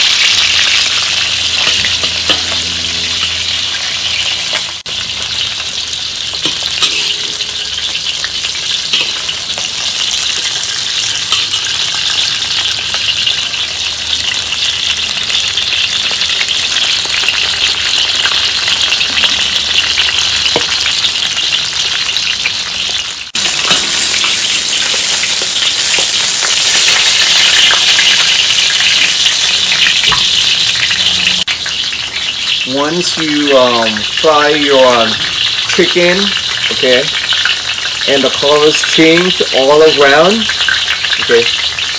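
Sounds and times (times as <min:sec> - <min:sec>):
chicken sizzling in hot oil: 0:00.0 - 0:41.9.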